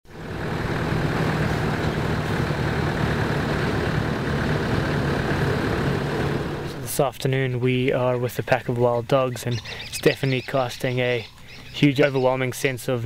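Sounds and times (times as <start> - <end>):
vehicle engine droning: 0.1 - 13.0.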